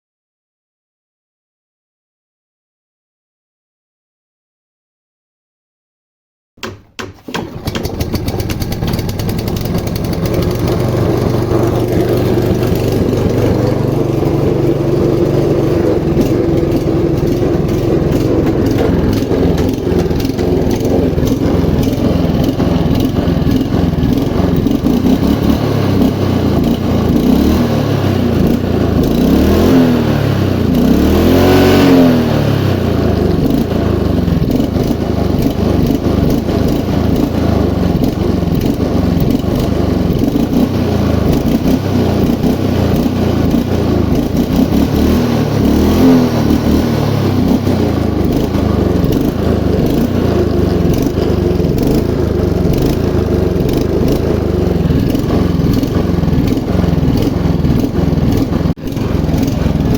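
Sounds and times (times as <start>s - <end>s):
lawn mower engine running: 6.6s - 59.9s.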